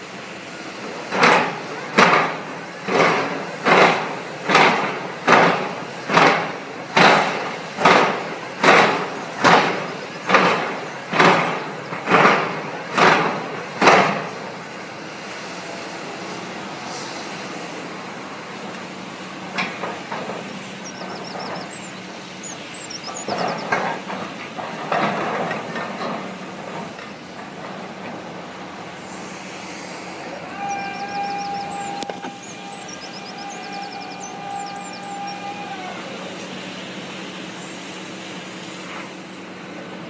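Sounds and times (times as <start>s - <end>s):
drilling rig humming: 0.0s - 40.0s
noisy machinery bursts: 0.0s - 40.0s
steady machine whine: 0.0s - 40.0s.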